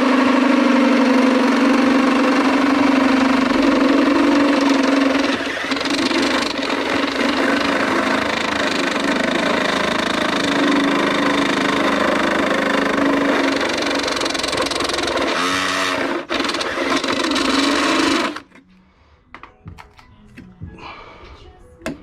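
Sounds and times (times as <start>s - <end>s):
power drill boring metal: 0.0s - 18.5s.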